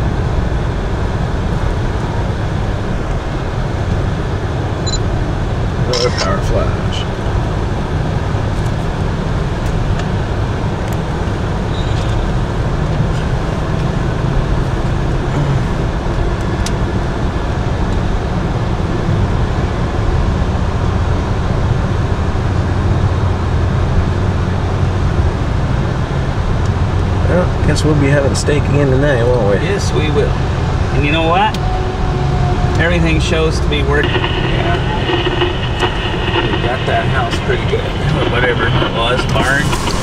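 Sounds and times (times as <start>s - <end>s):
car cabin road noise: 0.0s - 40.0s.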